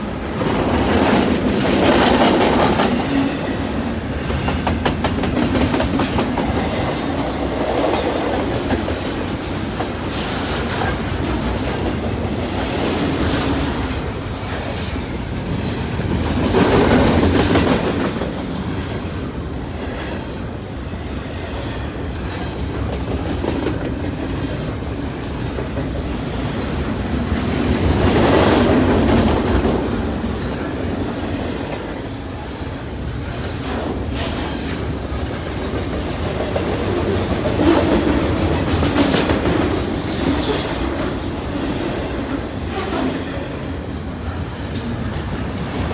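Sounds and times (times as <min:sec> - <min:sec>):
freight train wheels clacking: 0:00.0 - 0:45.9.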